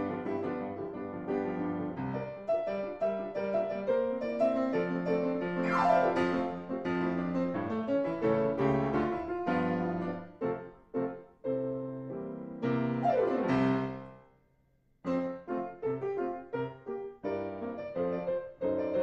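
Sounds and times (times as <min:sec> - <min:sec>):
solo piano playing: 0:00.0 - 0:14.3, 0:15.0 - 0:19.0.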